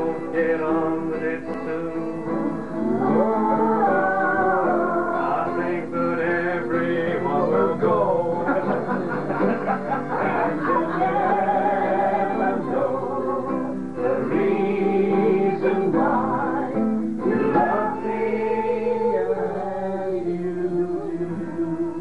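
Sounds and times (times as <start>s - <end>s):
acoustic guitar: 0.0s - 22.0s
men singing together: 0.0s - 22.0s.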